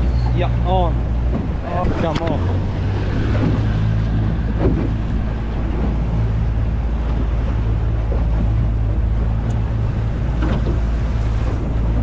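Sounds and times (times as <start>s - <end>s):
outboard motor running: 0.0s - 12.0s
water rushing past hull: 0.0s - 12.0s
wind buffeting microphone: 0.0s - 12.0s.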